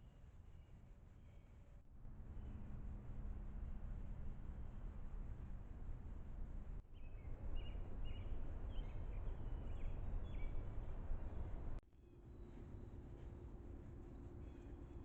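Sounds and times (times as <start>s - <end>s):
low outdoor rumble: 1.7s - 15.0s.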